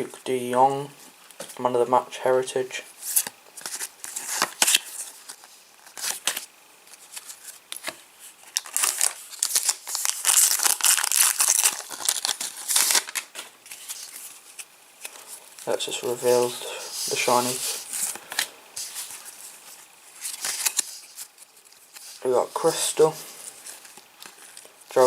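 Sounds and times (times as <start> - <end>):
card packet wrapper tearing crinkling: 3.1 - 19.6, 20.2 - 25.0.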